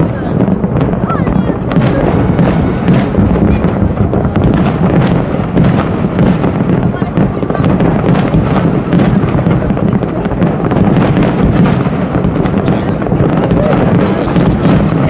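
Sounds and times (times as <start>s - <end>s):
crowd voices: 0.0s - 15.0s
fireworks bursting and crackling: 0.0s - 15.0s.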